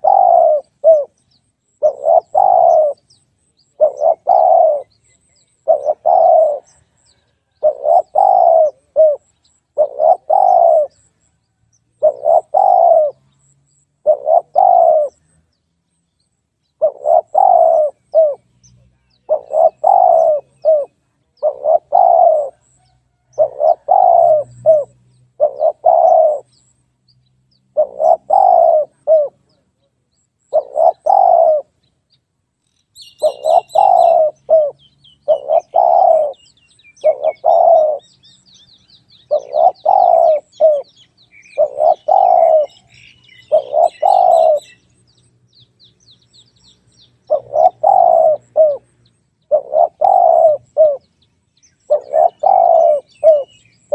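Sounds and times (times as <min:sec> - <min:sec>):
dove cooing: 0:00.0 - 0:01.2, 0:01.8 - 0:11.2, 0:12.0 - 0:15.4, 0:16.8 - 0:18.5, 0:19.1 - 0:26.6, 0:27.7 - 0:29.7, 0:30.5 - 0:31.8, 0:33.0 - 0:44.8, 0:47.2 - 0:51.1, 0:51.9 - 0:53.9
small birds chirping: 0:00.0 - 0:53.9.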